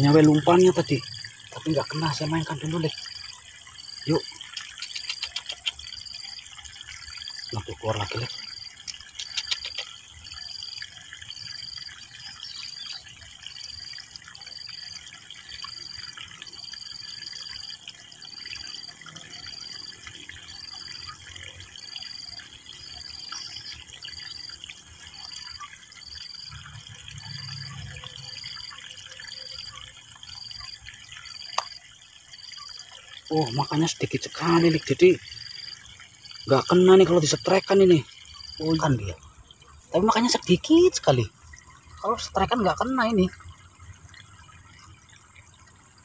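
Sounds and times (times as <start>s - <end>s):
stream water trickling: 0.0s - 46.0s.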